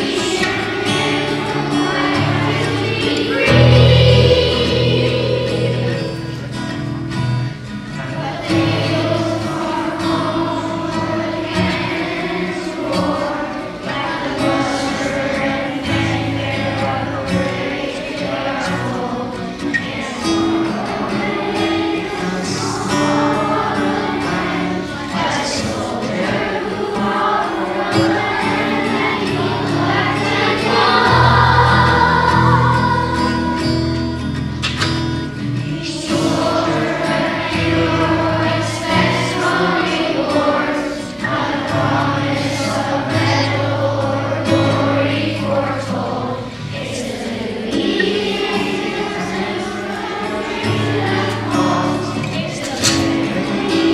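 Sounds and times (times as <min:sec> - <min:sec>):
children's choir singing: 0:00.0 - 0:53.9
instrumental accompaniment: 0:00.0 - 0:53.9.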